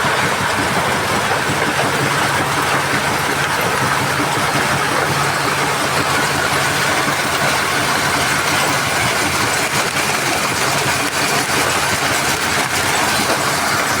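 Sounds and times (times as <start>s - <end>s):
diesel engine running: 0.0s - 14.0s
loud mechanical din: 0.0s - 14.0s.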